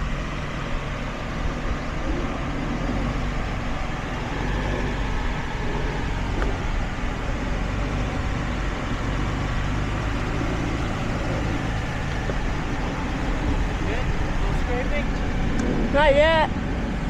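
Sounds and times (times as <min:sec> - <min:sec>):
truck engine driving slowly: 0:00.0 - 0:17.0
tyre and road noise: 0:00.0 - 0:17.0.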